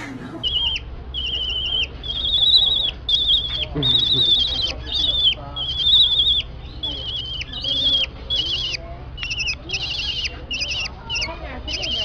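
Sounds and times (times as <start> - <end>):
bird squeaky calls: 0.4 - 12.0.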